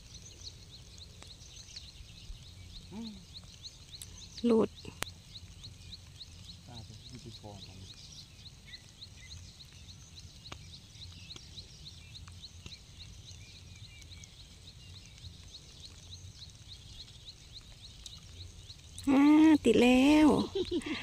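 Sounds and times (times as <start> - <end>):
faint high chirps: 0.0 - 21.0.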